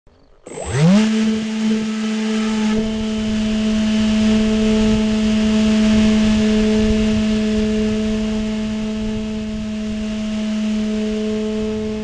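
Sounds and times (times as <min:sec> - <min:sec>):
model plane motor humming: 0:00.1 - 0:12.0.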